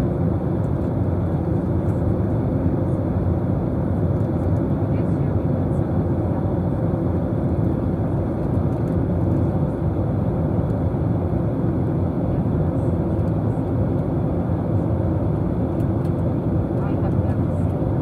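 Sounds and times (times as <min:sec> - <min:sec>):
airliner cabin engine noise: 0:00.0 - 0:18.0.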